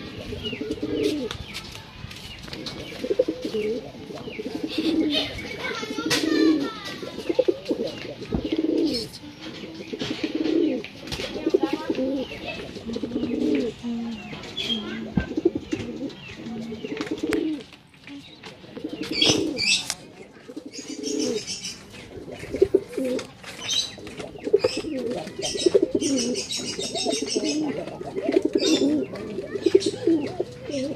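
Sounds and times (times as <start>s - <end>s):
pigeon cooing: 0.0s - 1.3s, 2.6s - 17.7s, 18.7s - 30.9s.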